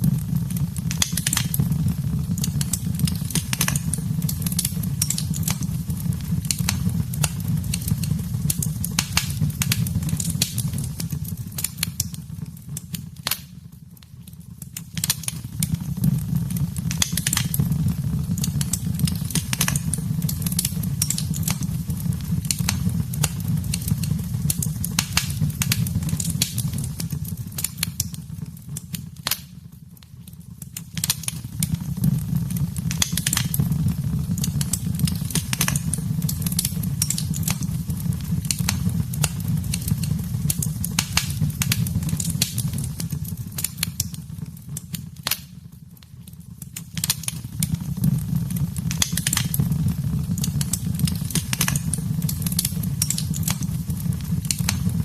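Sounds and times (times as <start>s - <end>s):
low rumble of flame: 0.0s - 55.0s
wood fire crackling and popping: 0.0s - 55.0s.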